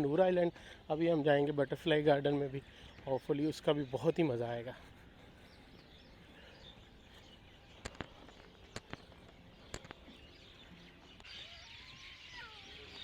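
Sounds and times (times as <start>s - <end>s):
faint birds chirping: 0.0s - 13.0s
outdoor background hiss: 0.0s - 13.0s.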